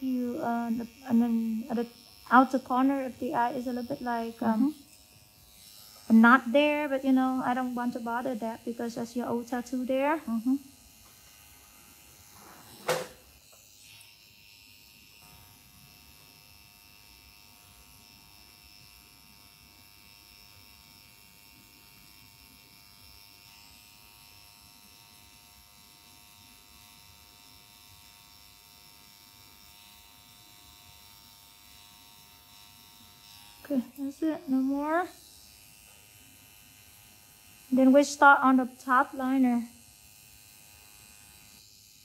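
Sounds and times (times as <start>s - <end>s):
tattoo pen buzzing: 0.0s - 42.0s.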